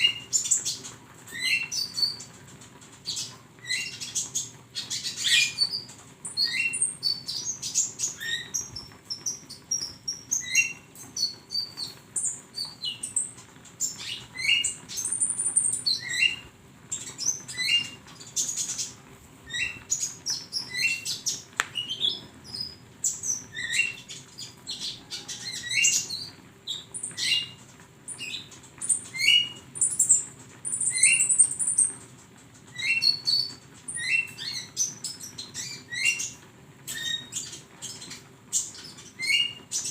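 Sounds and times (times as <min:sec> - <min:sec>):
sunbird chirping and twittering: 0:00.0 - 0:02.3, 0:03.0 - 0:32.0, 0:32.7 - 0:39.9.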